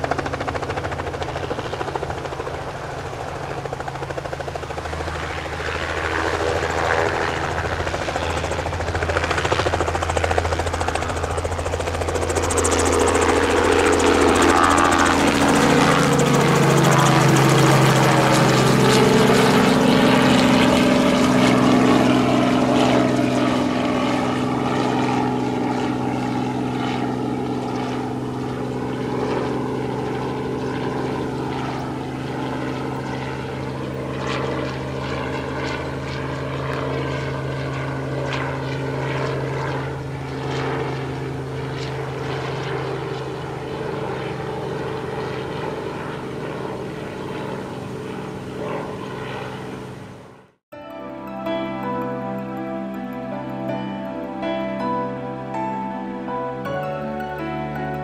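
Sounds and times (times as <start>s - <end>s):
helicopter drone in flight: 0.0s - 58.0s.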